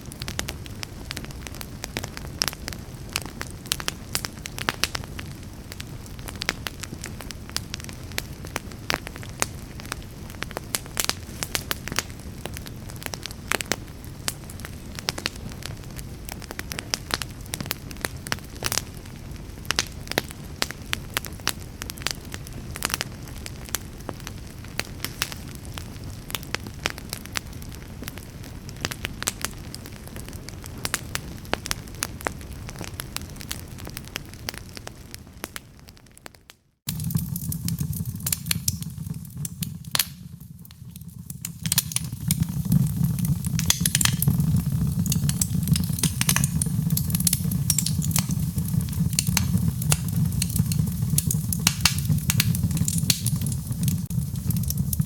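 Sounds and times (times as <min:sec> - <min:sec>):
low rumble of flame: 0:00.0 - 0:35.6, 0:36.9 - 0:55.0
fire pops and crackles: 0:00.0 - 0:55.0.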